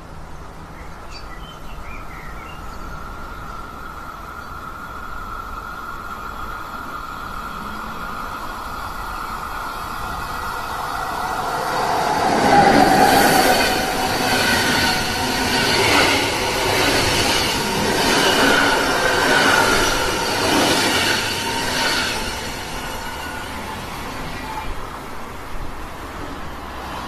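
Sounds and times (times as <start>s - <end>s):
train wheels rumbling on rails: 2.6s - 27.0s
high wavering wheel squeal: 3.4s - 25.6s.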